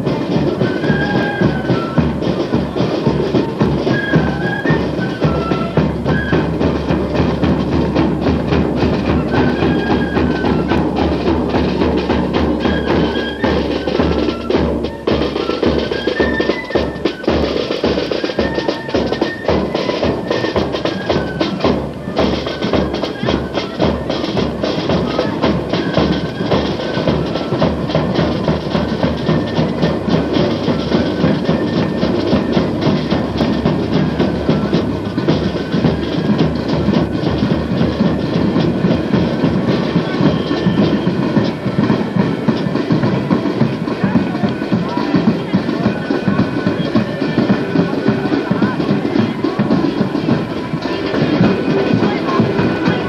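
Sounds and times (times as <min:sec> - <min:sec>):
high flute notes: 0:00.0 - 0:53.0
snare and bass drums: 0:00.0 - 0:53.0.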